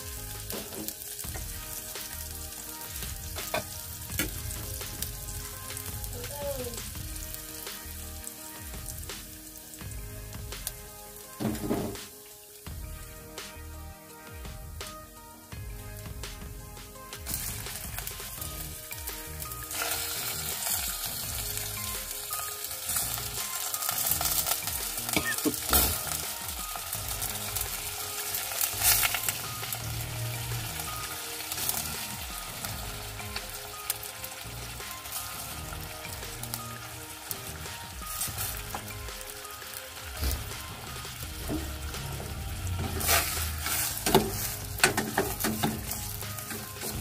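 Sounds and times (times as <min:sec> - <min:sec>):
chicken livers sizzling in oil: 0:00.0 - 0:47.0.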